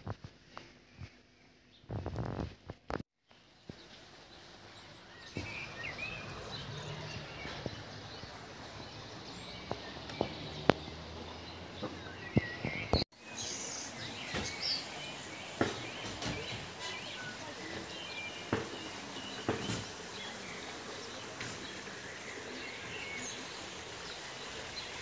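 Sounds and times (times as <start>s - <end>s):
small birds chirping: 3.3s - 25.0s.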